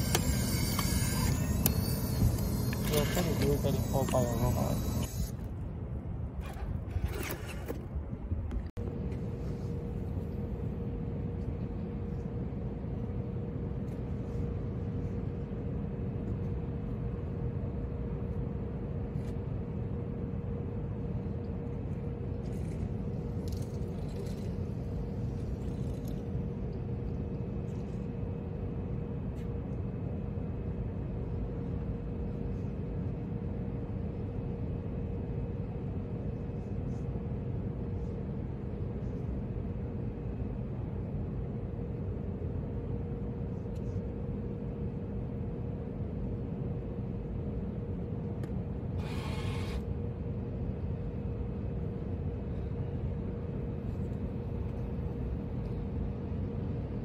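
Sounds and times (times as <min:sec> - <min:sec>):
constant hum: 0:00.0 - 0:57.0
low outdoor rumble: 0:00.0 - 0:57.0.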